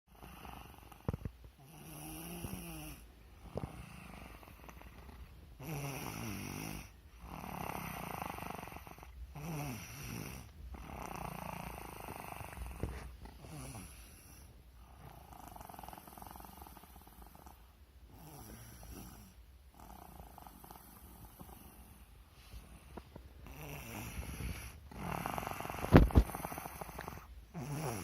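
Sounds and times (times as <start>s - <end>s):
person snoring: 0.1s - 22.0s, 22.6s - 28.0s.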